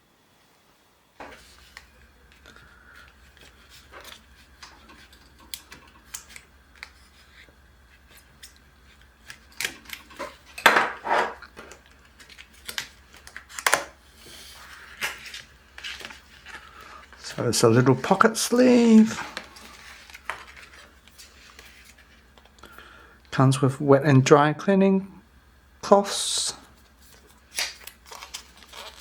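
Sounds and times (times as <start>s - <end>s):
card and plastic rustling: 1.2s - 22.9s, 26.6s - 29.0s.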